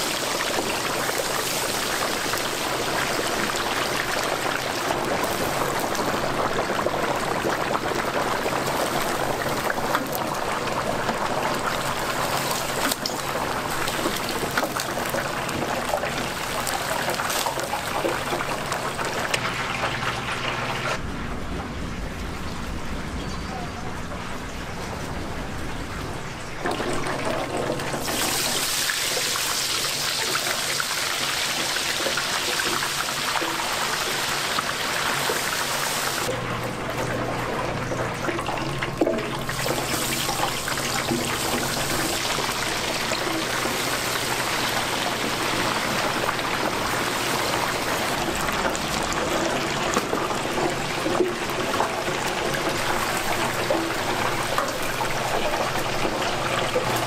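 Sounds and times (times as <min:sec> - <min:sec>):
hot oil sizzling: 0:00.0 - 0:21.0, 0:26.4 - 0:57.0.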